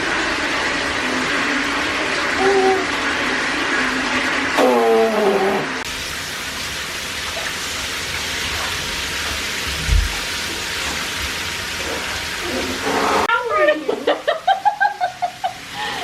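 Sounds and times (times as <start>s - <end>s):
water running: 0.0s - 16.0s.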